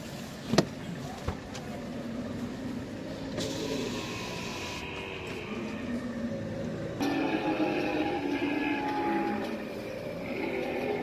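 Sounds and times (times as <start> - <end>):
camels groaning: 2.0 - 11.0.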